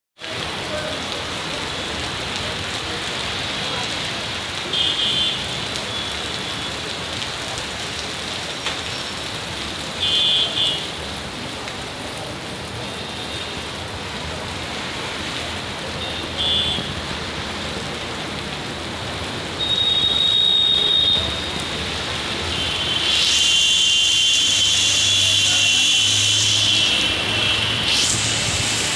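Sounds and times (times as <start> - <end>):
heavy rain falling: 0.2 - 28.9.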